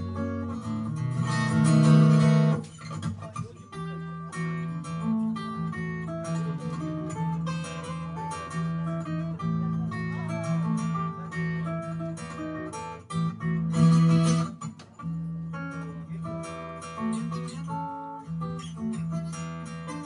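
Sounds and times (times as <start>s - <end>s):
plucked acoustic guitar: 0.0s - 20.0s
strummed guitar: 0.0s - 20.0s.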